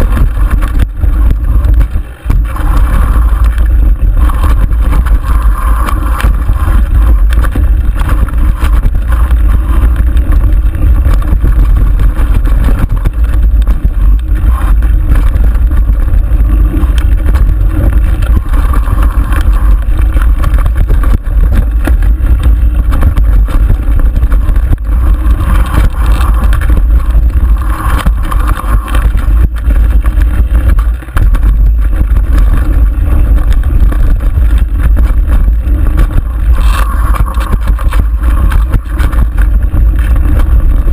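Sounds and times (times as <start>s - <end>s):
bike rattling and knocking: 0.0s - 40.9s
wind rumble on microphone: 0.0s - 40.9s.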